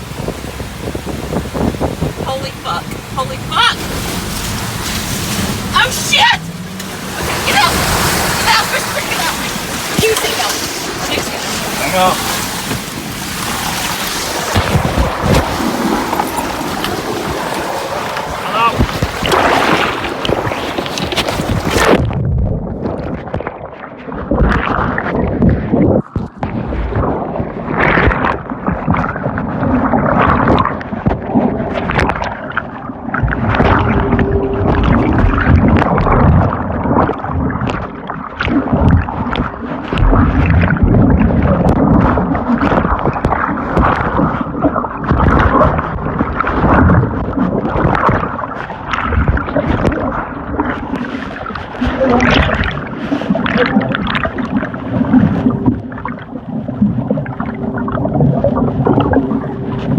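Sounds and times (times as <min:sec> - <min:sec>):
floodwater churning and gurgling: 0:00.0 - 0:59.9.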